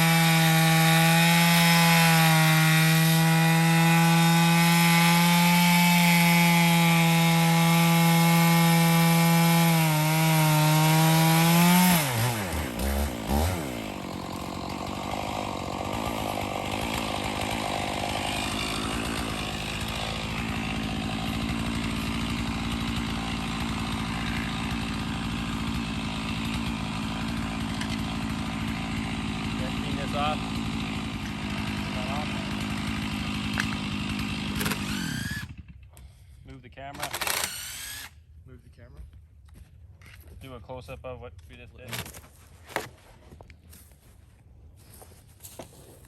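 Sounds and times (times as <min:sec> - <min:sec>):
chainsaw idling: 0:00.0 - 0:38.1
chainsaw cutting wood: 0:00.0 - 0:38.3, 0:41.8 - 0:44.0, 0:44.8 - 0:46.0.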